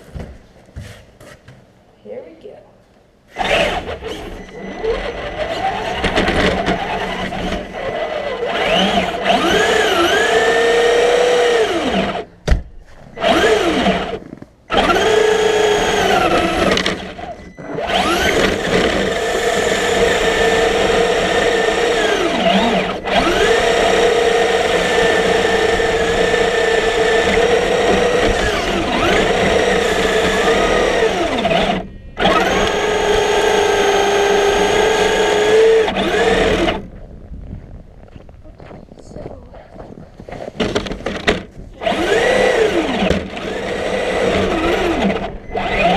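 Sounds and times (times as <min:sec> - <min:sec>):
remote-control car motor whining: 0:03.3 - 0:12.3, 0:13.2 - 0:36.9, 0:41.8 - 0:45.9.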